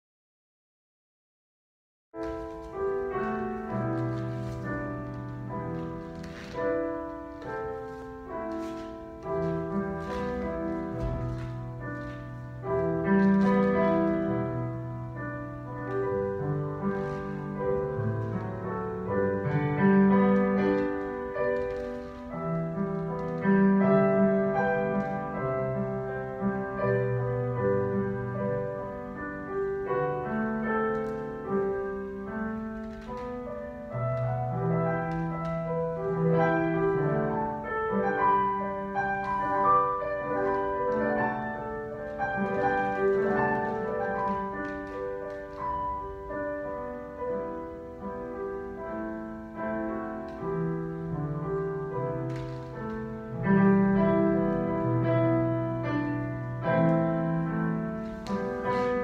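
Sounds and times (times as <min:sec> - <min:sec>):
slow classical piano chords: 0:02.1 - 0:59.0.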